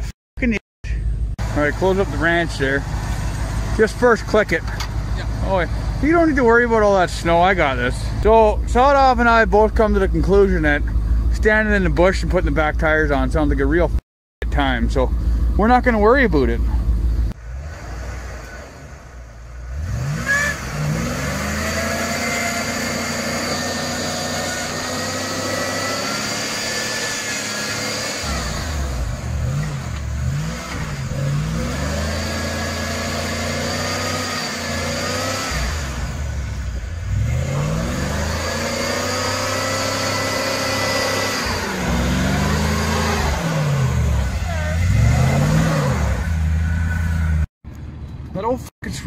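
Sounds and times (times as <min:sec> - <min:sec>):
pickup engine revving: 0:01.1 - 0:13.8, 0:14.5 - 0:47.5.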